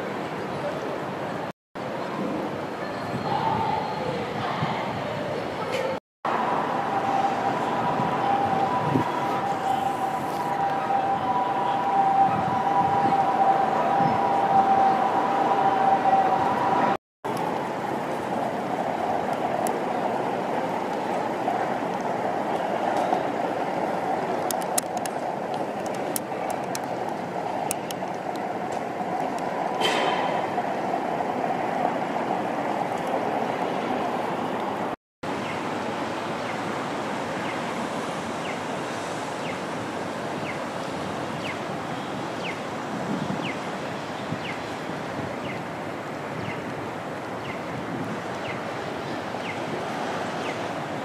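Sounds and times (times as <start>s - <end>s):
steady rushing noise: 6.3s - 51.0s.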